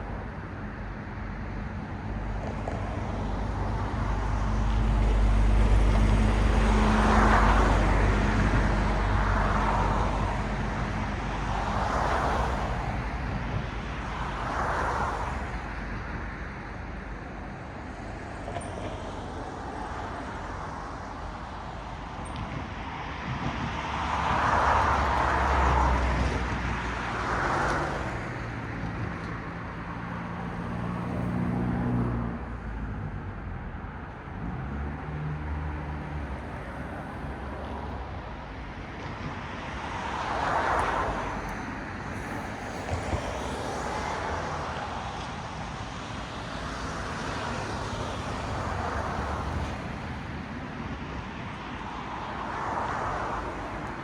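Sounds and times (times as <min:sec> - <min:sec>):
cars passing on a road: 0:00.0 - 0:54.0.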